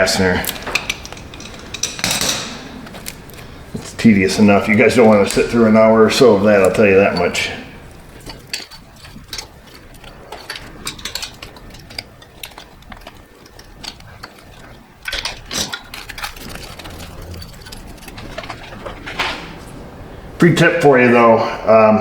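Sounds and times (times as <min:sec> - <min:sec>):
hand tools clicking and clattering: 0:00.0 - 0:19.7.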